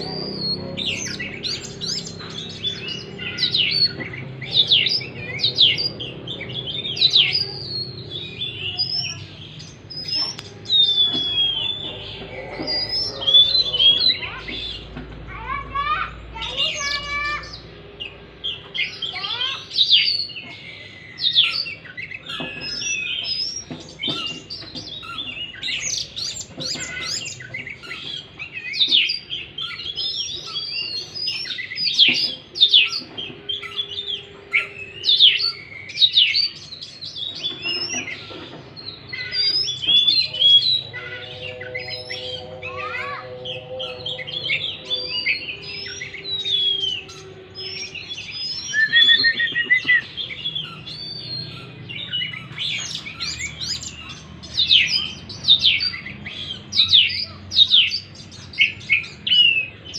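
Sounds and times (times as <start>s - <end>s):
bird singing whistles and trills: 0.0s - 14.9s, 16.4s - 59.9s.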